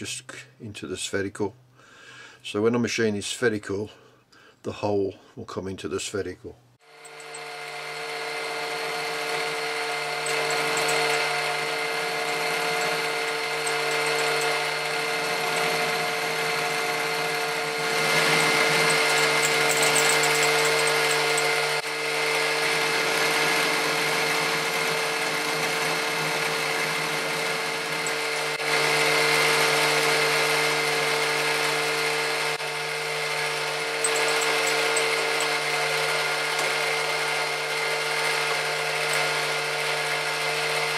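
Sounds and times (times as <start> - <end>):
end mill cutting metal: 6.8 - 40.9
milling machine motor whine: 6.8 - 40.9.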